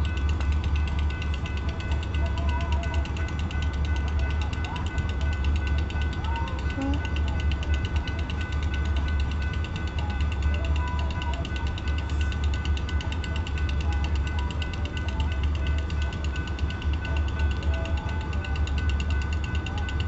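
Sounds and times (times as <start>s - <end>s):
crossing warning bell ringing: 0.0s - 20.0s.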